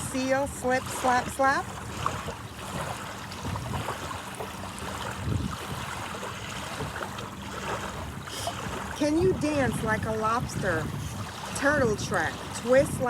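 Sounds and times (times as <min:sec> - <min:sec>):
ocean surf washing ashore: 0:00.0 - 0:13.0
wind buffeting microphone: 0:00.0 - 0:13.0.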